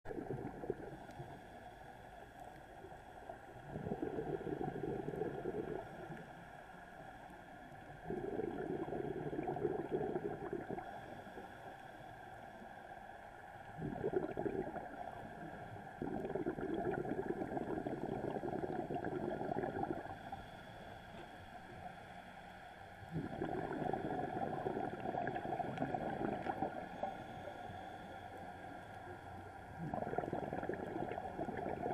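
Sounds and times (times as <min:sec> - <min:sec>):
underwater exhaled air bubbling: 0:00.1 - 0:01.5, 0:02.5 - 0:11.8, 0:13.6 - 0:21.0, 0:23.0 - 0:31.9.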